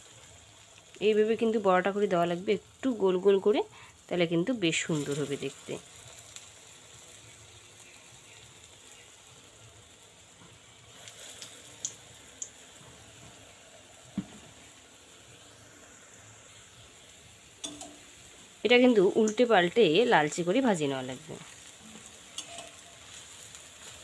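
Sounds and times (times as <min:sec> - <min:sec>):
oil sizzling: 0:00.0 - 0:24.0
oil popping: 0:04.7 - 0:24.0.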